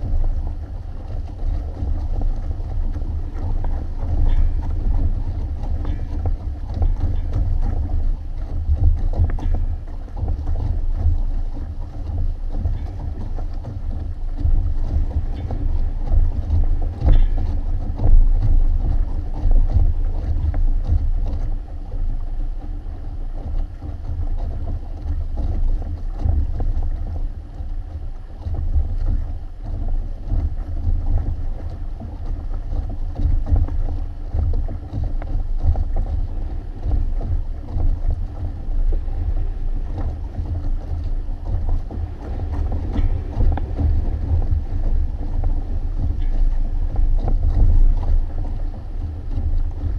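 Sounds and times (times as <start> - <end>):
water rushing along hulls: 0.0 - 49.9
wind buffeting microphone: 0.0 - 49.9.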